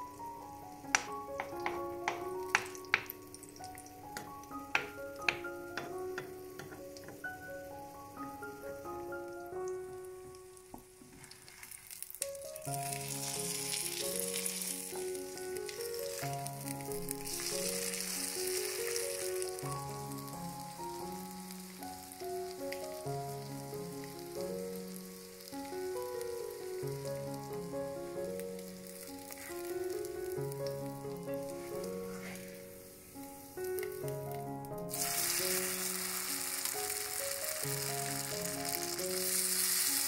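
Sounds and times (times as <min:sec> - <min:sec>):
slow background music: 0:00.0 - 0:40.0
patties sizzling in oil: 0:00.2 - 0:40.0.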